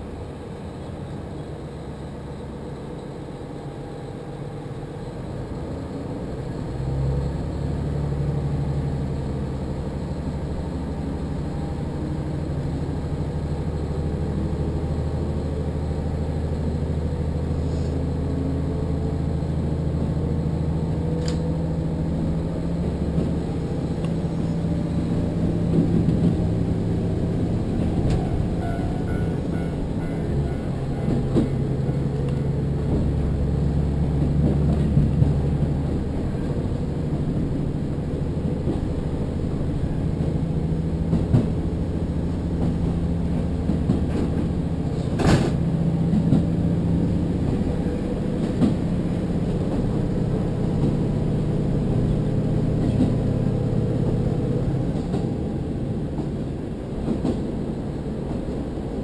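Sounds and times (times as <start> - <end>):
diesel engine drone: 0.0 - 59.0
moving train rumble: 0.0 - 59.0.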